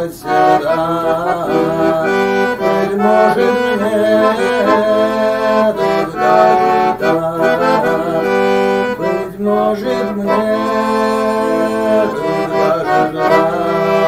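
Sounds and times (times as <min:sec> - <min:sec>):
button accordion playing melody: 0:00.0 - 0:14.0.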